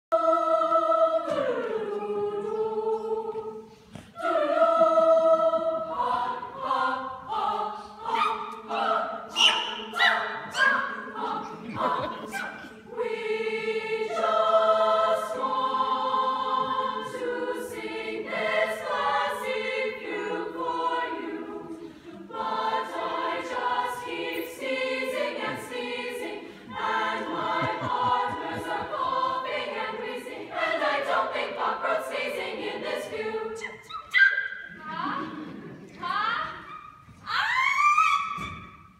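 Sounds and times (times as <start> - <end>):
female choir singing: 0.1 - 33.9.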